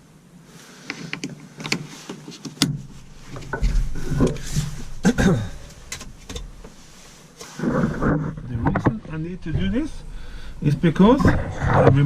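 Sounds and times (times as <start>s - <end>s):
rubbing and creaking: 1.8s - 12.0s.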